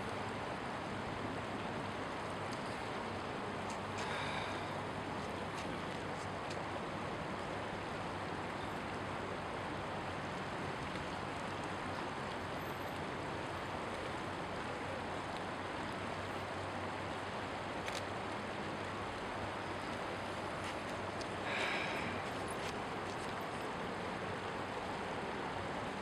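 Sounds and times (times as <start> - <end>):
river rapids rushing: 0.0 - 26.0.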